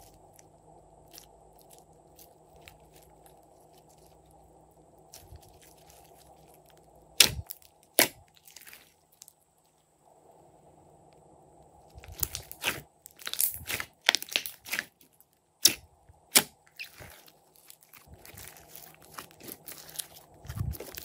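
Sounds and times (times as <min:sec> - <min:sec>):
soft slime crackle: 0:00.0 - 0:10.0, 0:11.8 - 0:15.8, 0:16.7 - 0:21.0.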